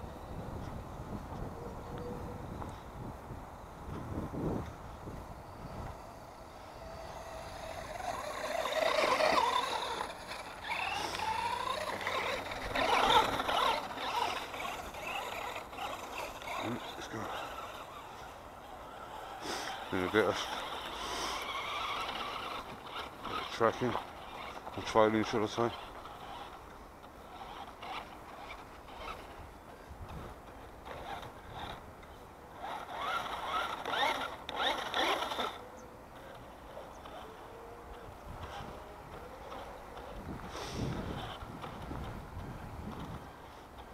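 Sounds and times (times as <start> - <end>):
toy truck electric motor whining: 5.6 - 31.9, 32.5 - 35.6, 36.2 - 43.9.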